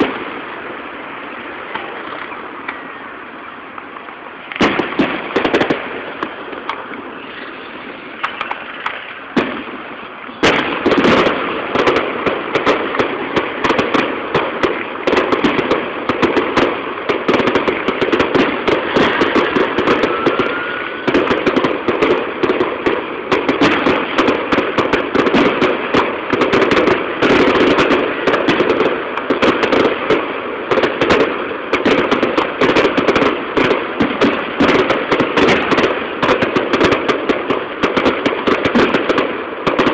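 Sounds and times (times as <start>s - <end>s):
firework shells bursting and crackling: 0.0s - 39.9s.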